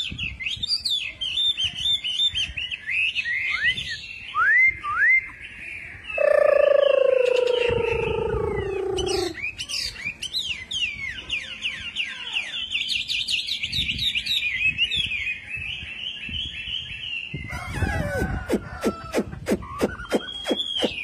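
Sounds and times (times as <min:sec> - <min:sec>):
bird singing whistles and trills: 0:00.0 - 0:21.0.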